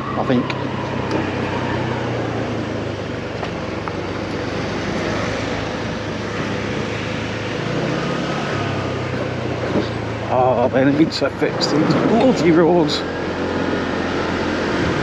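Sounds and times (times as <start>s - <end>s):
motorbike engine hum: 0.0s - 15.0s
wind and road noise: 0.0s - 15.0s.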